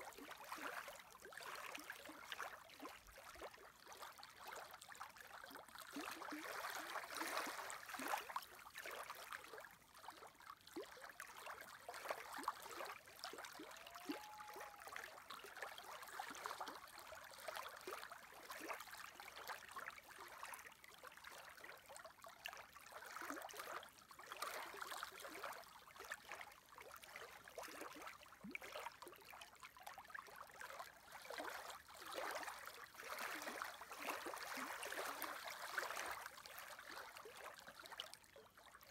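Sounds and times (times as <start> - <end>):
lake waves lapping and splashing: 0.0 - 38.9.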